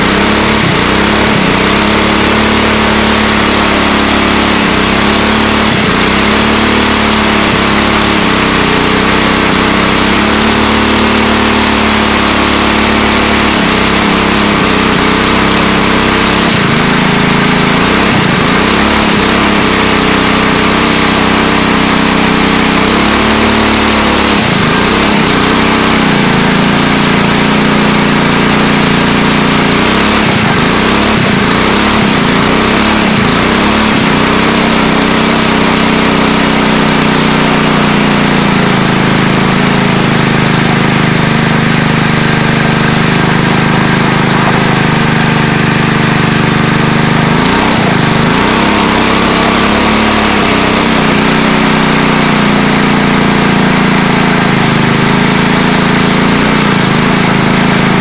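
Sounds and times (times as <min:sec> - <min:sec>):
small engine revving hard: 0:00.0 - 0:58.0
tire spinning on asphalt: 0:00.0 - 0:58.0.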